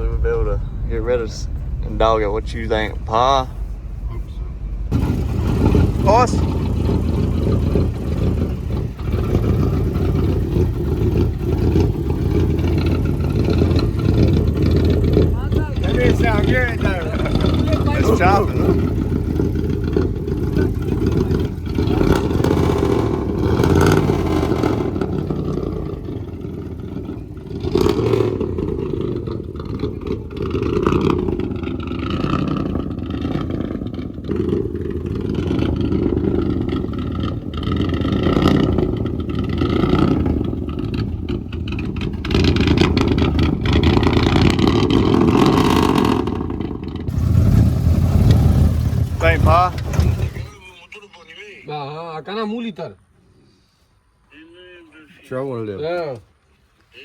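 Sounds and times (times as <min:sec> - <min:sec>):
truck engine running rough: 0:00.0 - 0:50.8.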